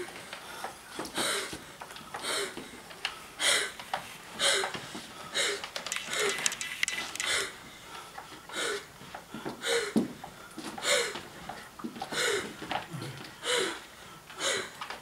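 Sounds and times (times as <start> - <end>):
person gasping breaths: 0.0 - 15.0.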